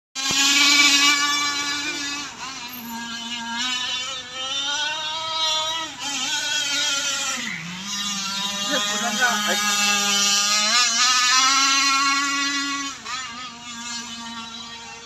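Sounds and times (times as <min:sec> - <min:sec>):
racing boats high buzzing: 0:00.2 - 0:15.0.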